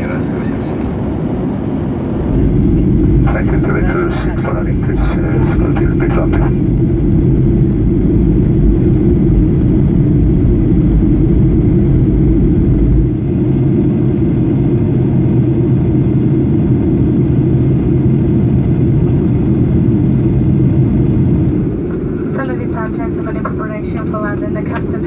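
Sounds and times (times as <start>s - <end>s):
aircraft cabin engine drone: 0.0s - 25.0s
airflow over fuselage: 0.0s - 25.0s.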